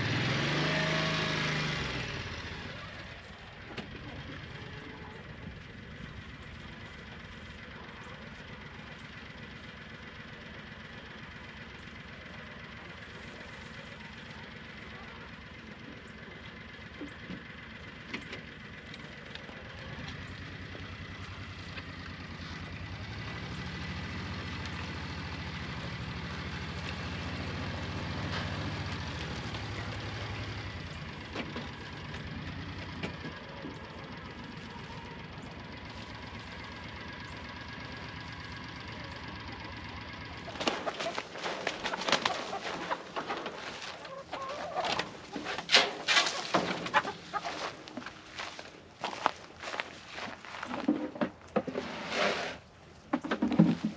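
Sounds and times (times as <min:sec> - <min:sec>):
engine idling: 0:00.0 - 0:53.9.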